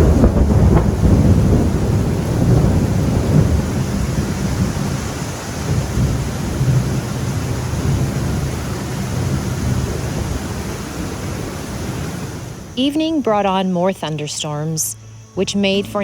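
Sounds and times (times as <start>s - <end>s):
steady rain: 0.0s - 12.9s
thunder rumbling: 0.0s - 12.9s.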